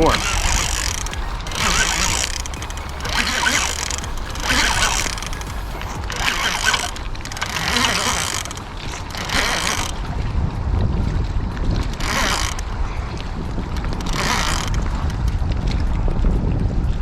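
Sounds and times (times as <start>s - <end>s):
fishing reel clicking: 0.0s - 10.3s, 11.5s - 15.5s
wind rumble on microphone: 0.0s - 17.0s.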